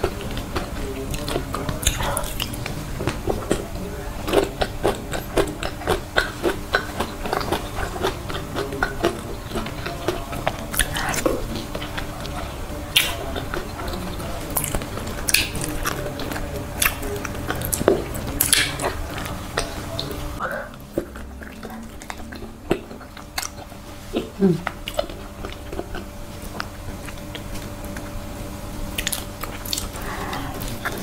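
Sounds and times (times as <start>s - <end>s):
person chewing with wet mouth clicks: 0.0s - 28.2s, 28.9s - 31.0s.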